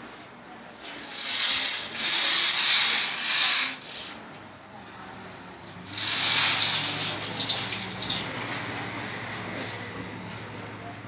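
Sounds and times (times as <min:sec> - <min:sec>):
bamboo blind rustling: 0:00.1 - 0:04.4, 0:05.7 - 0:10.6.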